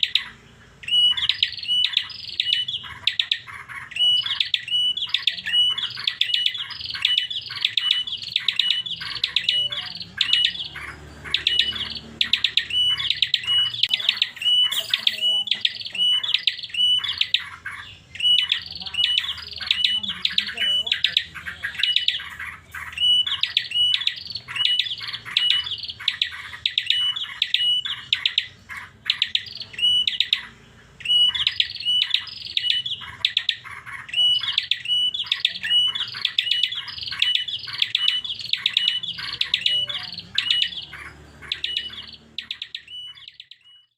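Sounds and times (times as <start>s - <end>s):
bird rapid high chirps: 0.0s - 43.9s.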